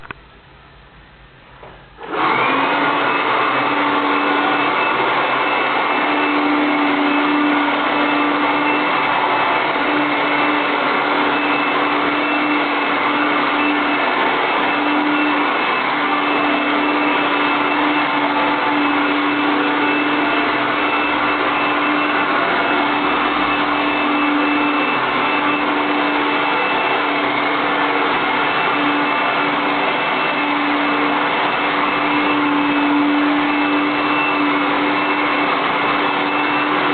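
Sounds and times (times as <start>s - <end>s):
vacuum cleaner motor whining: 1.6s - 36.9s.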